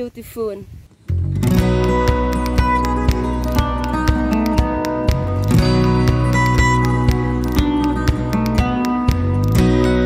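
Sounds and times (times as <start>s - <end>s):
plucked guitar background music: 1.1s - 10.0s.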